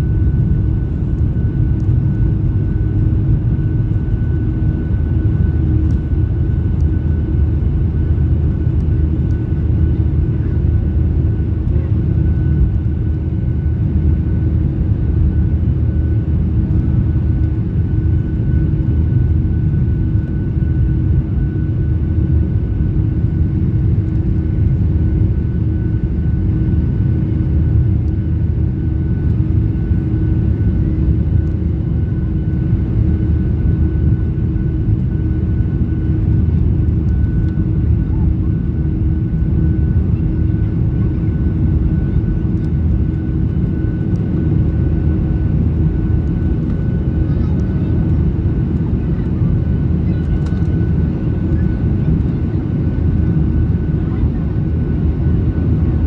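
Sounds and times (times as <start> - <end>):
faint high engine whine: 0.0 - 56.0
jet engine drone in cabin: 0.0 - 56.0.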